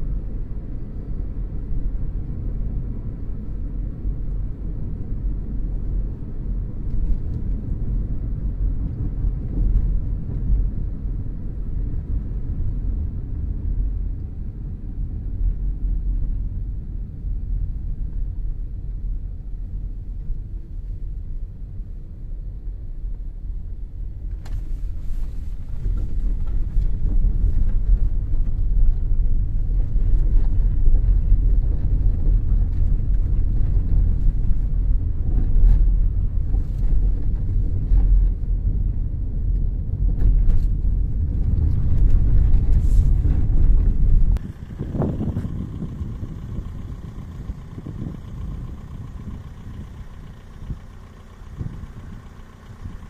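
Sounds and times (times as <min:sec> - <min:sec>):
tyres rumbling on rough road: 0:00.0 - 0:53.0.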